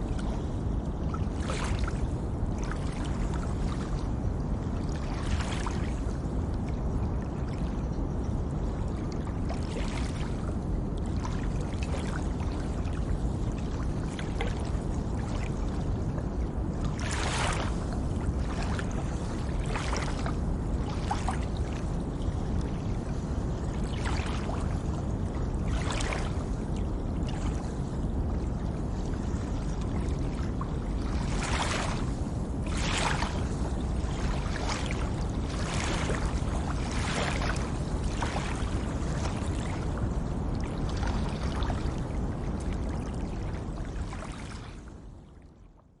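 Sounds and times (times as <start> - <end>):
water lapping and sloshing: 0.0 - 46.0.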